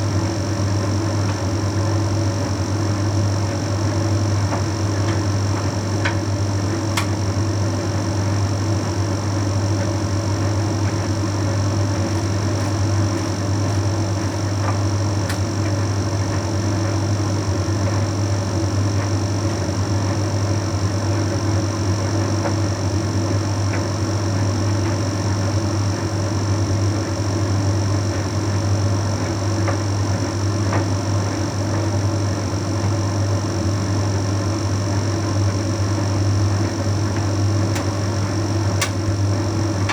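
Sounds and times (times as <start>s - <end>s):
tumble dryer humming and whirring: 0.0s - 39.9s.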